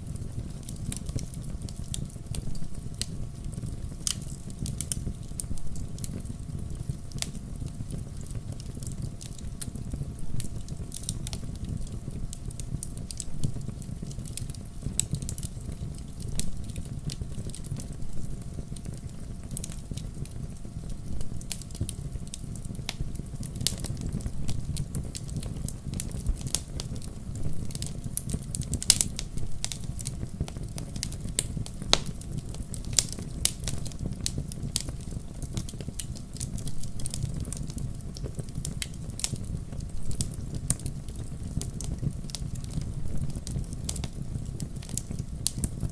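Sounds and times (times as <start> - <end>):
burning logs crackling and popping: 0.0 - 45.9
fire flames rumbling: 0.0 - 45.9.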